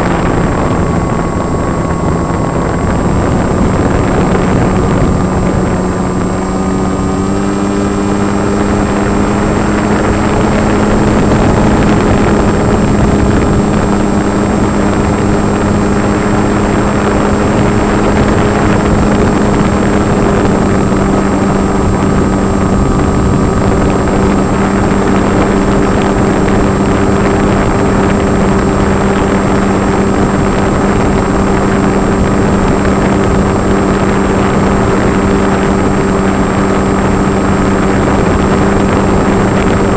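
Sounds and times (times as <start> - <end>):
electric motor and propeller buzzing: 0.0 - 39.9
wind on microphone: 0.0 - 39.9.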